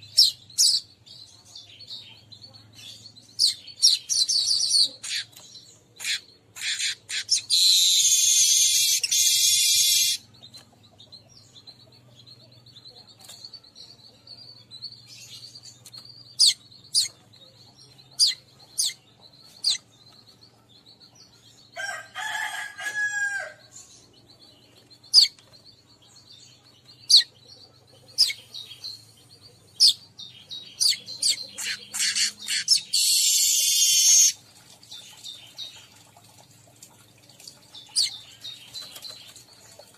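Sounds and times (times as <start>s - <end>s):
bird chirps: 0.0s - 22.0s, 23.3s - 36.0s
buzzy bird song: 0.0s - 39.9s.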